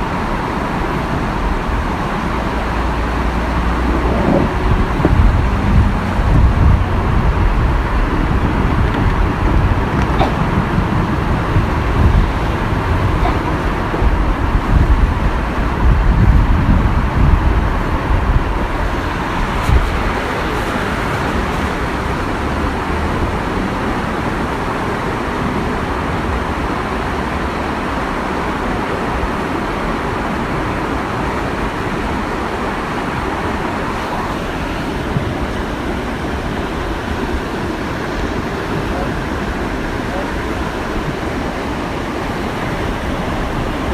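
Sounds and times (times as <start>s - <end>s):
low rumbling buffets: 0.0s - 43.9s
waterfall rushing: 0.0s - 43.9s.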